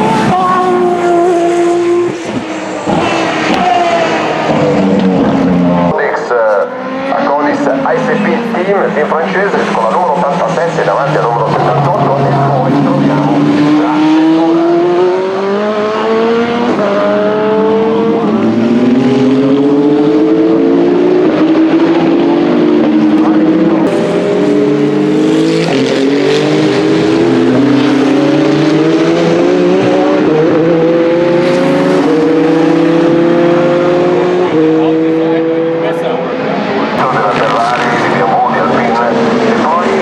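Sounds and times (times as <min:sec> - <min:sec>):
race car engines accelerating: 0:00.0 - 0:40.0.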